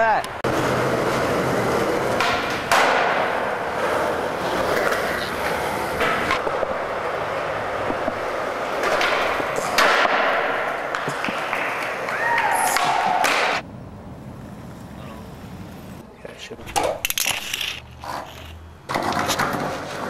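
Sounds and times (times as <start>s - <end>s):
skateboard wheels rolling on concrete: 0.0s - 20.0s
skateboard clacks: 0.2s - 13.6s, 16.6s - 20.0s.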